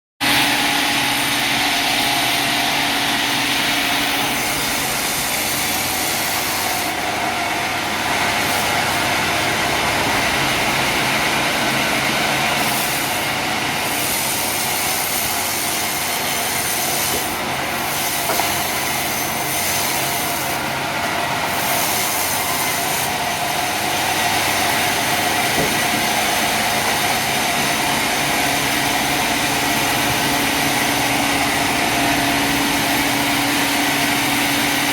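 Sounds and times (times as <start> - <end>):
sawmill machinery drone: 0.2 - 34.9.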